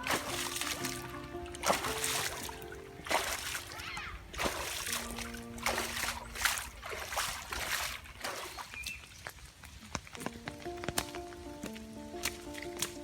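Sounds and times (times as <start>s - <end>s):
heavy rain splashing: 0.0s - 13.0s.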